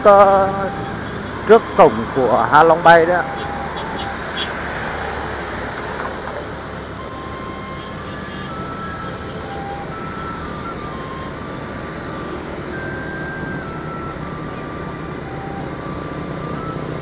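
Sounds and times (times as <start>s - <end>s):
motorbike engine hum: 0.0s - 17.0s
wind and road noise: 0.0s - 17.0s.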